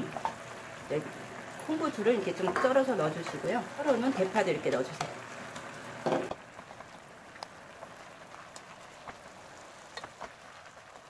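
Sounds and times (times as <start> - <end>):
sauce bubbling in a pot: 0.0 - 11.0.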